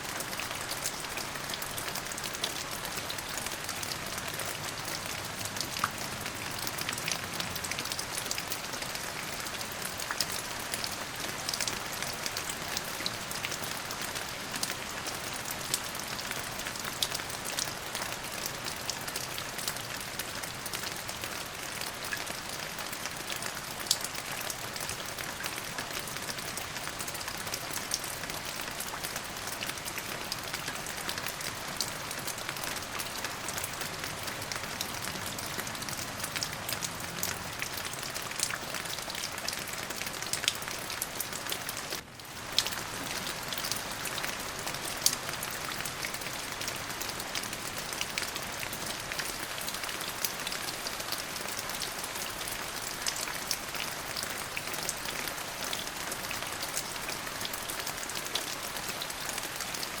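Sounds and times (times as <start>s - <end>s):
steady rain falling: 0.0s - 60.0s
raindrops ticking: 0.6s - 59.9s.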